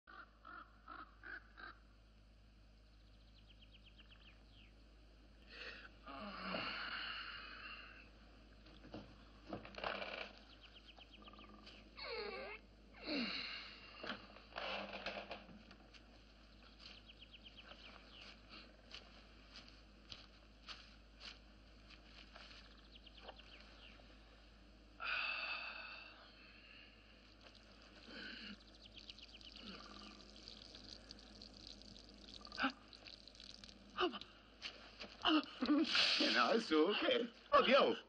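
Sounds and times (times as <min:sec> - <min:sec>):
birds chirping: 0:02.6 - 0:05.8, 0:07.6 - 0:12.8, 0:15.4 - 0:38.0.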